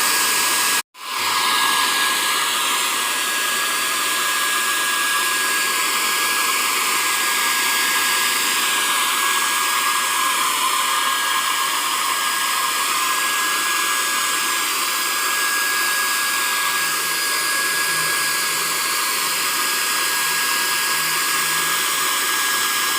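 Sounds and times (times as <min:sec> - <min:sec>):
motor blower rushing with whine: 0:00.0 - 0:22.9.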